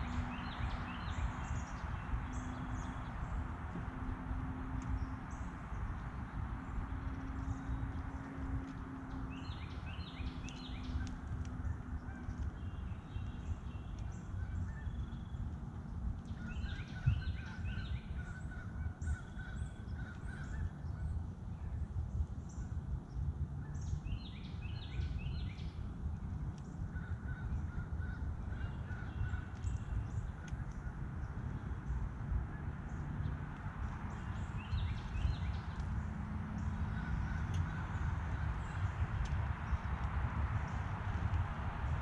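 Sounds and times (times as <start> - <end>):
small birds chirping: 0.0 - 3.9, 4.7 - 42.0
steady low rumble: 0.0 - 42.0.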